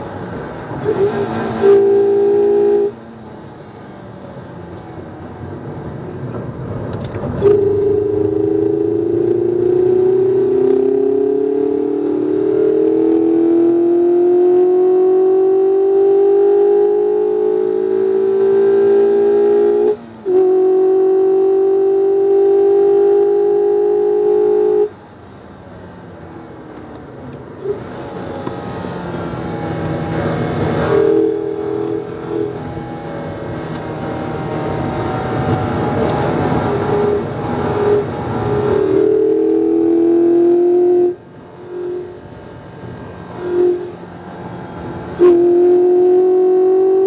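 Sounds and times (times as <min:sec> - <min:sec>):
car engine at full throttle: 0:00.0 - 0:47.0
road noise: 0:00.0 - 0:47.0.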